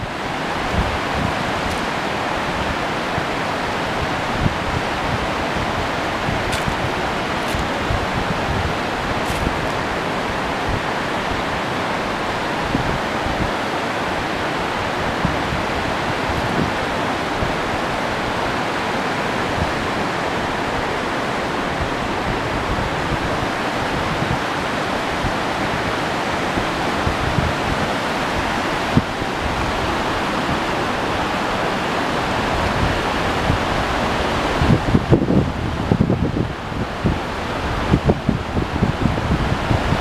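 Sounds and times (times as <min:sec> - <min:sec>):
river rushing over rapids: 0:00.0 - 0:40.0
wind buffeting microphone: 0:00.0 - 0:40.0.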